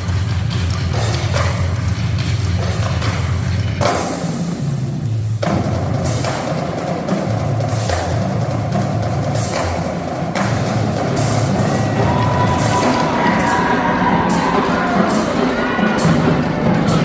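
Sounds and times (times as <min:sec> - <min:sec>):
drums and percussion playing: 0:00.0 - 0:17.0.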